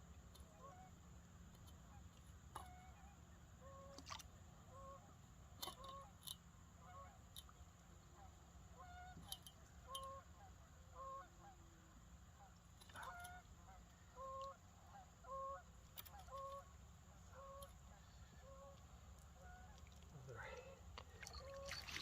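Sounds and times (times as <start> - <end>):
geese honking faintly: 0.4 - 1.0, 1.7 - 4.0, 4.6 - 22.0.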